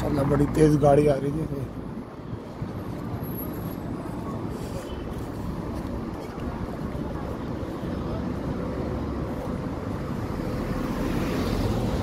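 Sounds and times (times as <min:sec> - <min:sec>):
cars driving by: 0:00.0 - 0:12.0.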